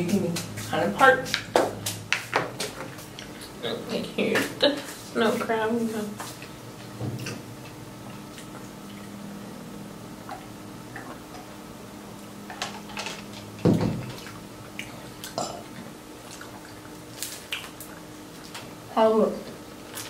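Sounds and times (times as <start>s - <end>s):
faint steady hum: 0.0s - 20.0s
people chewing food: 1.3s - 5.5s, 6.2s - 11.6s, 12.2s - 20.0s.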